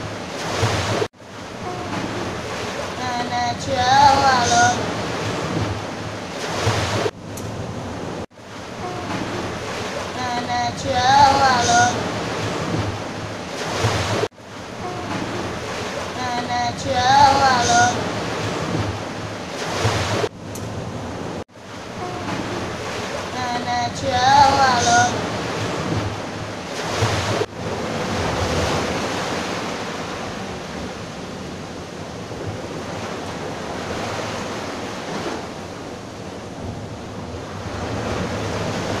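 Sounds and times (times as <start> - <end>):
waves washing over sand: 0.0 - 7.2, 7.8 - 39.0.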